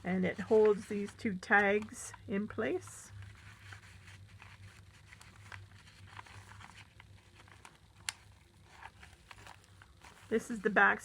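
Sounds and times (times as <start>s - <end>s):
low steady hum: 0.0s - 11.0s
paper and card rustling: 0.0s - 11.0s.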